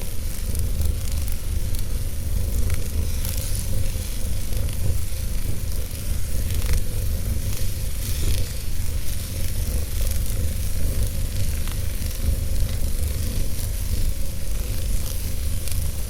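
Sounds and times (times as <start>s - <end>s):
fire rumbling and hissing: 0.0s - 16.0s.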